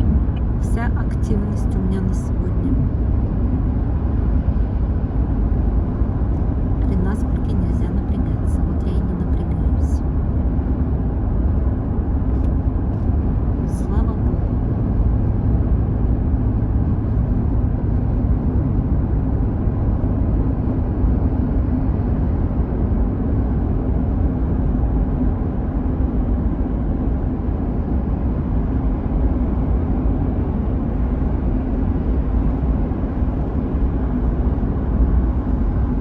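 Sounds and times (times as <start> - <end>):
car interior road rumble: 0.0 - 36.0.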